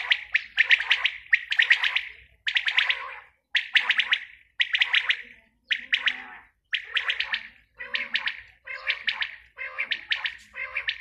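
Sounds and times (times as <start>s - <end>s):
quail chattering call: 0.0s - 11.0s.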